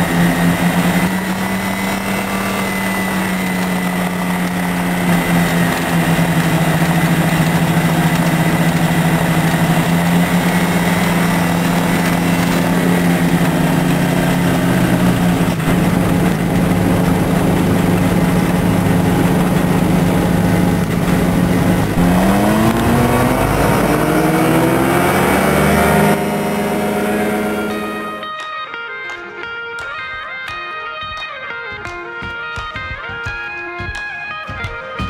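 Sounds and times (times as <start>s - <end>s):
light aircraft engine and propeller: 0.0s - 28.4s.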